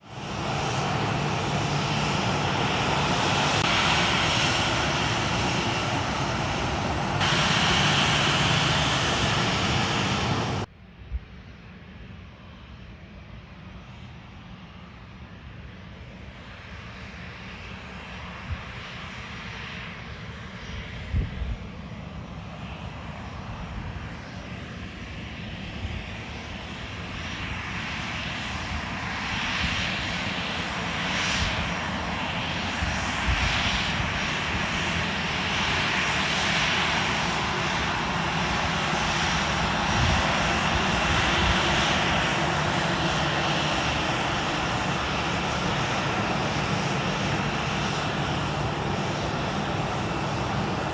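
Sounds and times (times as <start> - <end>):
jet engines roaring: 0.0 - 10.7, 16.2 - 50.9.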